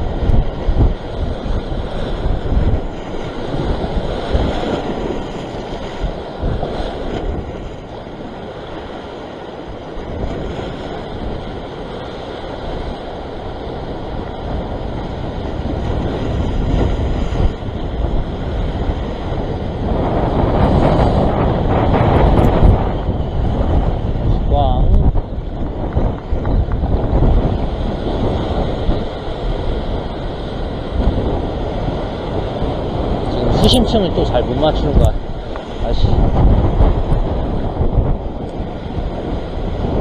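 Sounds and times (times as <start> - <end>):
surf washing over rocks: 0.0 - 40.0
wave breaking: 0.0 - 40.0
wind buffeting microphone: 0.0 - 40.0.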